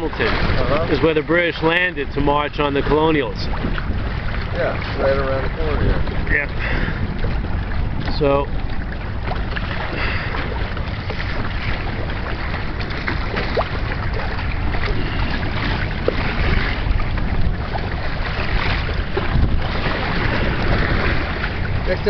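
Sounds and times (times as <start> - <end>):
water splashing against hull: 0.0 - 22.0
wind rumbling on microphone: 0.0 - 22.0.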